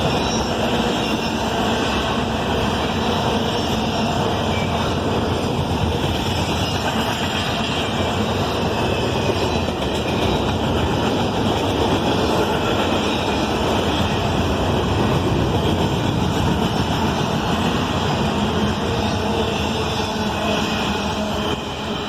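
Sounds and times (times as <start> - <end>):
freight train wheels rumbling on rail: 0.0 - 22.0.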